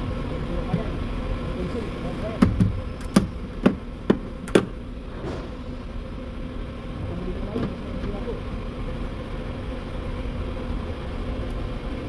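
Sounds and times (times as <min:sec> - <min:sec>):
steady shop hum: 0:00.0 - 0:12.0.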